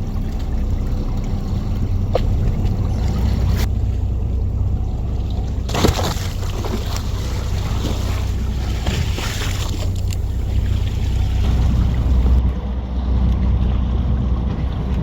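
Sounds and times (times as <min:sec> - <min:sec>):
boat engine droning: 0:00.0 - 0:15.0
water splashing along hull: 0:00.0 - 0:15.0.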